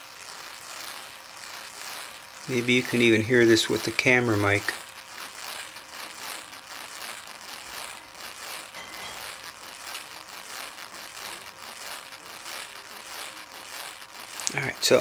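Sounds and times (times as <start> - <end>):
corona discharge hissing crackle: 0.0 - 15.0.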